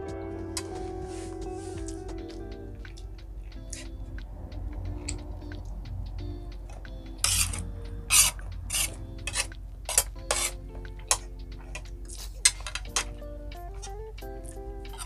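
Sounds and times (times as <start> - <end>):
quiet background music: 0.0 - 15.0.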